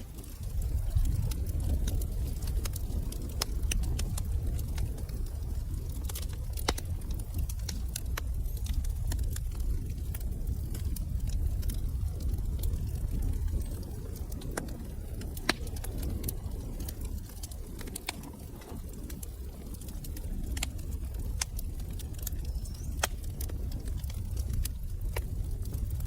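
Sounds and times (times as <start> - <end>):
low roar of flames: 0.0 - 26.0
wood fire crackling and popping: 0.0 - 26.0.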